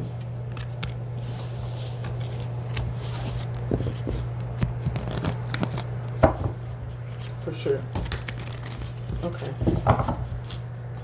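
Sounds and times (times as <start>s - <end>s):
cards being shuffled: 0.0s - 6.3s, 7.0s - 10.7s
steady low hum: 0.0s - 11.0s.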